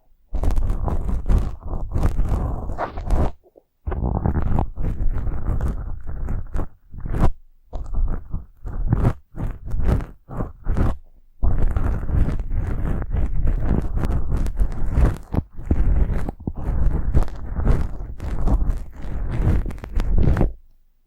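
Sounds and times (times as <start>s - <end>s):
brush stroking scratchily: 0.3s - 20.6s.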